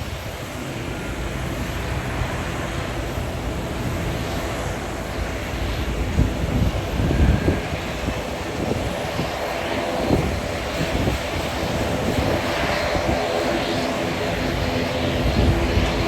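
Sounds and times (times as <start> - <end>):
turboprop engines droning: 0.0 - 16.0
wind buffeting microphone: 0.0 - 16.0.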